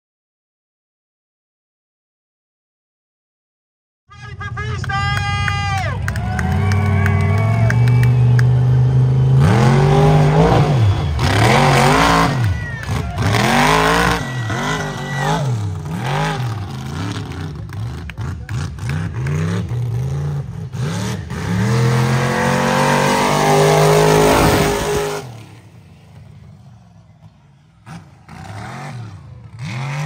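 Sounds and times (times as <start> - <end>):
truck engine revving: 4.4 - 30.0.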